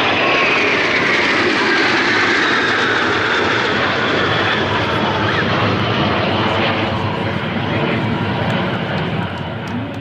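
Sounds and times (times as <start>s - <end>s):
jets flying overhead: 0.0s - 10.0s.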